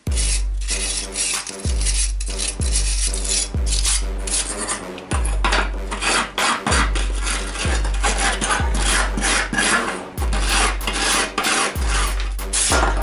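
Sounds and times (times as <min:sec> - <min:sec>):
background music with bass beat: 0:00.0 - 0:13.0
wire brush rasping on brass: 0:00.0 - 0:13.0.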